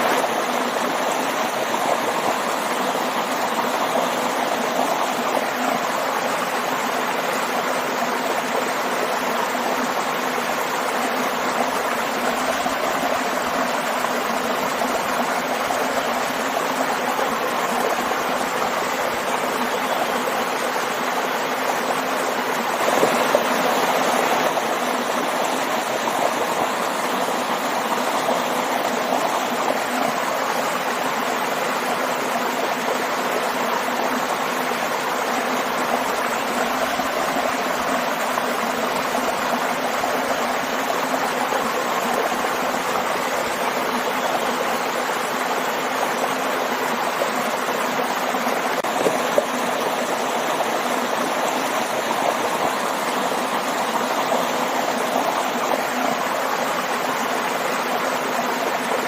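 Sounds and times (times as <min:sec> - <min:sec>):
water rushing in a waterfall: 0:00.0 - 0:59.0.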